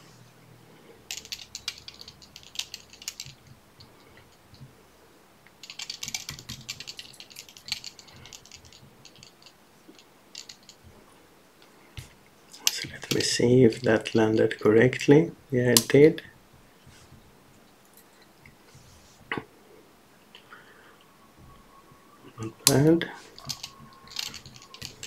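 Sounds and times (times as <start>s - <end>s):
light rattling and crackling: 0.0s - 25.0s.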